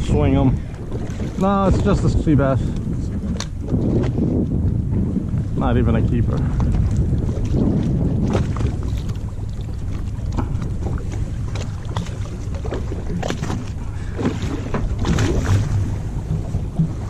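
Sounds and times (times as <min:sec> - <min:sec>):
fishing boat engine rumble: 0:00.0 - 0:17.0
wind buffeting microphone: 0:00.0 - 0:17.0.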